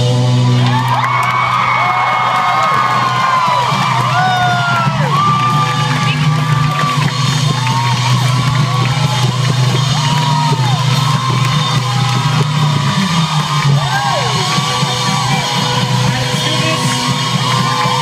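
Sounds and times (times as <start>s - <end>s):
rock band playing live: 0.0s - 18.0s
steady low bass: 0.0s - 18.0s.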